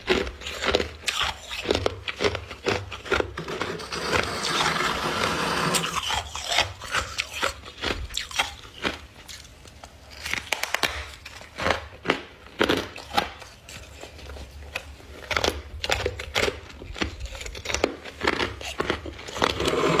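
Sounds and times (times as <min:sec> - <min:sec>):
frost being scraped and crunched: 0:00.0 - 0:09.5, 0:10.1 - 0:20.0.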